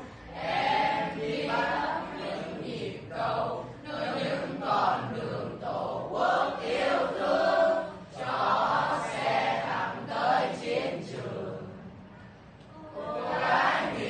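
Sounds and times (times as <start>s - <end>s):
children singing in chorus: 0.0s - 12.0s, 12.8s - 14.0s.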